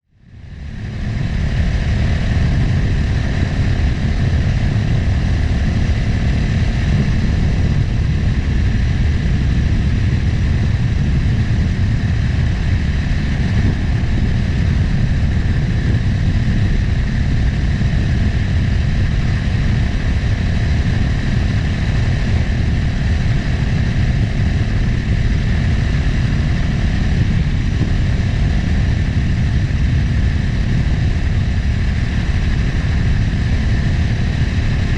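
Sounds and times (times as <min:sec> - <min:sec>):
motorcycle engine running: 0:00.1 - 0:34.9
wind on microphone: 0:00.2 - 0:34.9.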